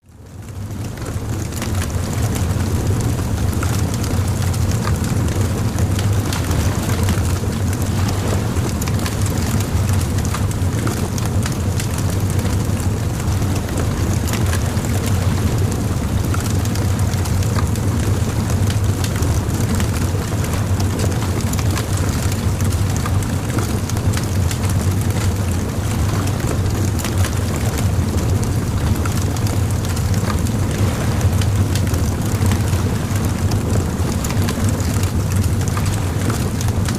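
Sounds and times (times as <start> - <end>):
low fire rumble: 0.0 - 36.9
bonfire crackling and popping: 0.2 - 36.9.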